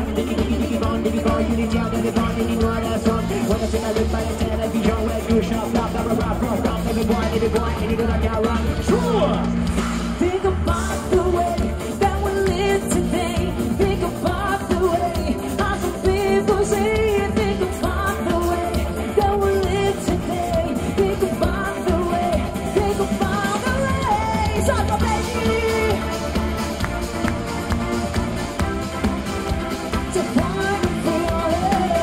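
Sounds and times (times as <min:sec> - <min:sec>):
lead singer: 0:00.0 - 0:32.0
live band playing pop song: 0:00.0 - 0:32.0.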